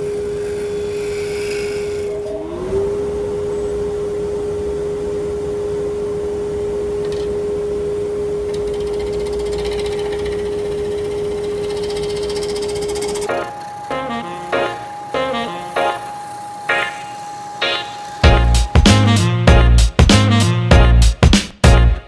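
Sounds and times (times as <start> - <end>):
wood lathe motor whine: 0.0 - 6.8, 8.3 - 19.4.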